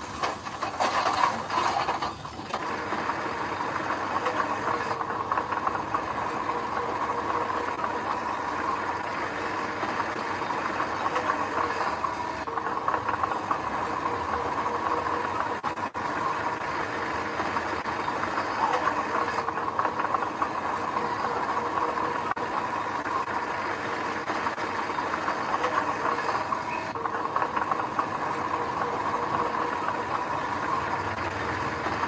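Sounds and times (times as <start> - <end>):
diesel machinery engine clattering: 0.0 - 32.0.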